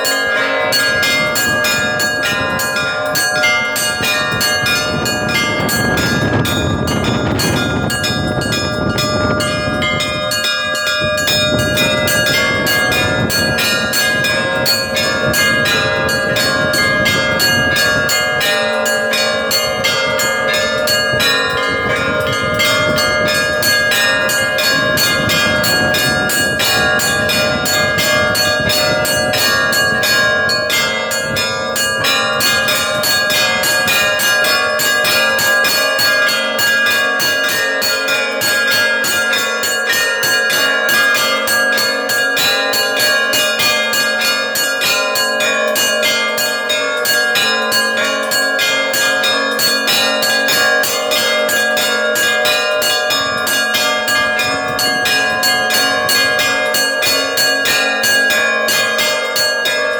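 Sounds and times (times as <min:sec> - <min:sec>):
church bells pealing: 0:00.0 - 0:59.9
deep low bell: 0:00.0 - 0:59.9.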